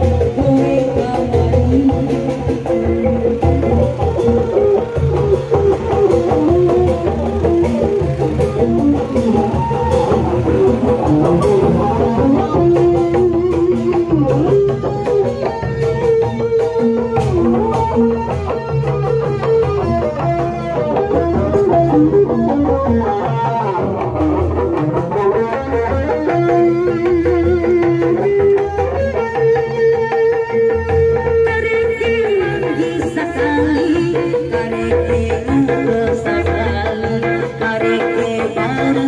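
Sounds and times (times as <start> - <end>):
drums: 0.0 - 39.0
plucked string melody: 0.0 - 39.0.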